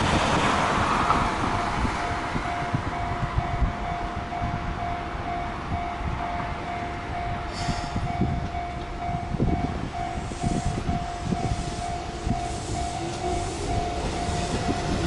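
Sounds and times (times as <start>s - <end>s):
level crossing alarm dinging: 2.0s - 15.0s.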